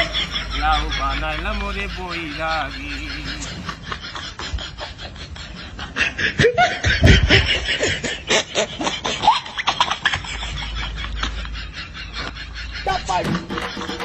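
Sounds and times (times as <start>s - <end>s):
person laughing: 0.0s - 14.0s.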